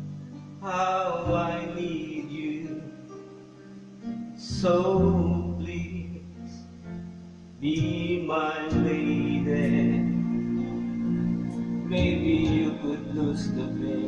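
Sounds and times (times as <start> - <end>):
music through an amplifier: 0.0 - 14.0.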